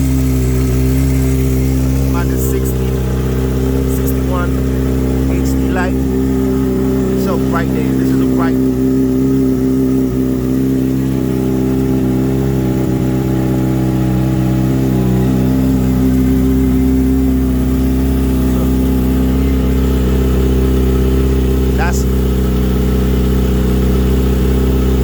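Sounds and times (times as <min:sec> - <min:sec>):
motorcycle engine idling: 0:00.0 - 0:25.0.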